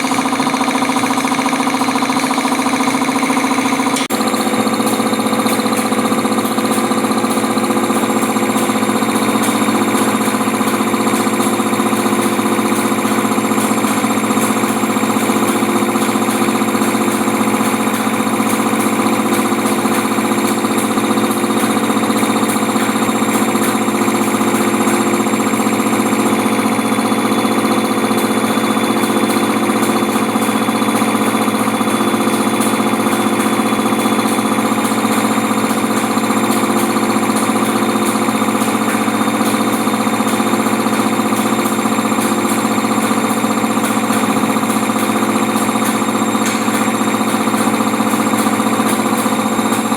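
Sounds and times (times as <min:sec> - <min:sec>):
air compressor running: 0:00.0 - 0:49.9.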